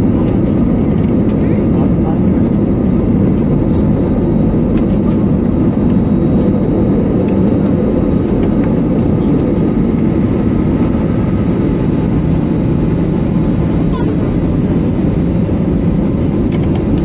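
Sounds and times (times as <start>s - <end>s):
jet engine noise in cabin: 0.0s - 17.0s.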